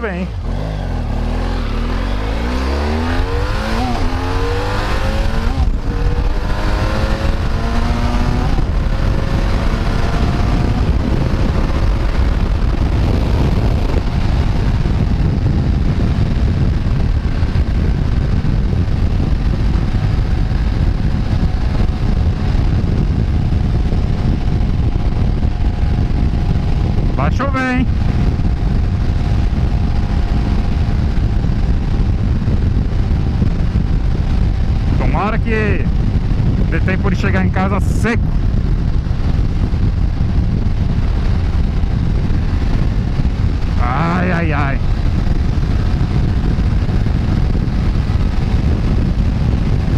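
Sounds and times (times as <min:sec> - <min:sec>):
motorcycle engine accelerating: 0:00.0 - 0:49.9
wind noise on microphone: 0:00.0 - 0:49.9.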